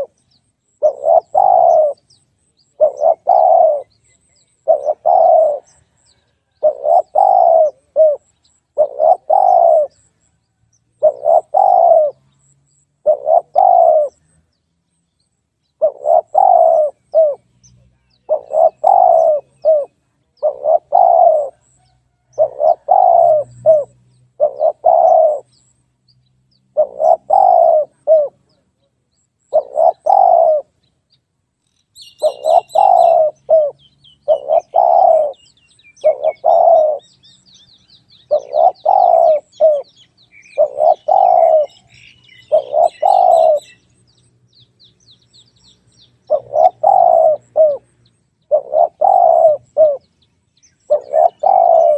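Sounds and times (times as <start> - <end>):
dove cooing: 0.0 - 0.2, 0.8 - 10.2, 11.0 - 14.4, 15.8 - 17.6, 18.2 - 25.6, 26.7 - 28.7, 29.5 - 30.8, 32.0 - 43.8, 46.2 - 50.1, 50.9 - 51.9
small birds chirping: 0.0 - 51.9.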